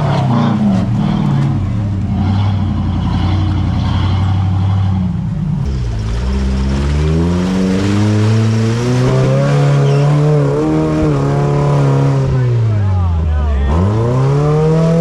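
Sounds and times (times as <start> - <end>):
engine running and revving: 0.0 - 15.0.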